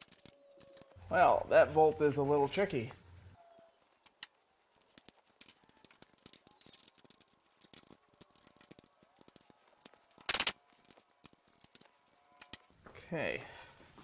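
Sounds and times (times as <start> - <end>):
faint falling squeaks: 0.0 - 13.7.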